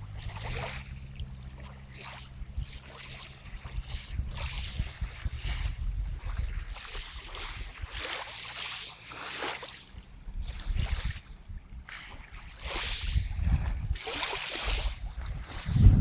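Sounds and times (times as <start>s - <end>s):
wind buffeting microphone: 0.0s - 8.4s, 9.8s - 16.0s
small waves washing against shore: 0.0s - 16.0s.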